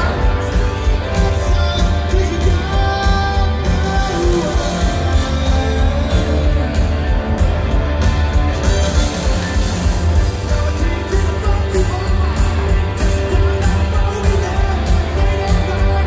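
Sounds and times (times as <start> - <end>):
person singing: 0.0 - 7.4, 10.1 - 16.0
live rock band: 0.0 - 16.0.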